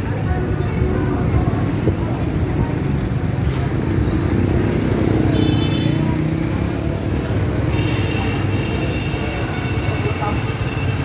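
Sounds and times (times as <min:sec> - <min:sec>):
motor scooter engines humming: 0:00.0 - 0:11.0.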